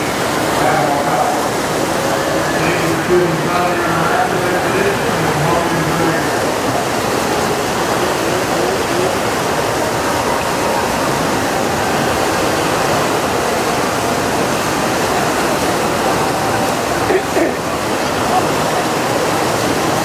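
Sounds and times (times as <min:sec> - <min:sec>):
white water rushing: 0:00.0 - 0:20.0.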